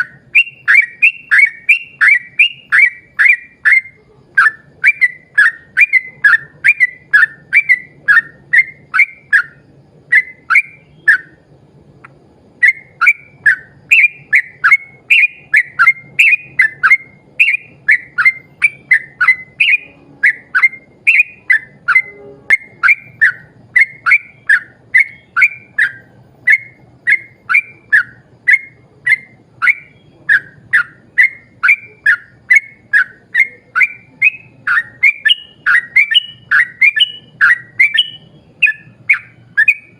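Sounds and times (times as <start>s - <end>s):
bulbul singing whistled chirps: 0.0s - 39.9s.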